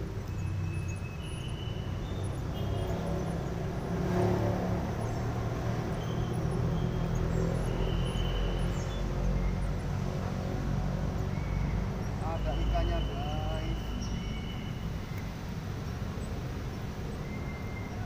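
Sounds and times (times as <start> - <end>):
low rumble of road traffic: 0.0 - 18.0.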